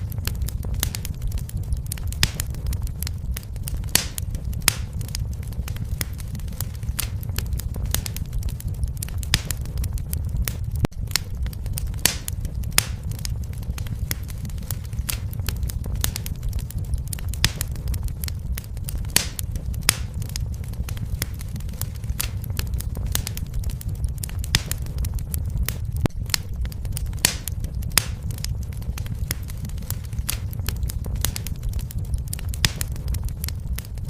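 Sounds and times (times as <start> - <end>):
fireplace fire crackling: 0.0 - 34.0.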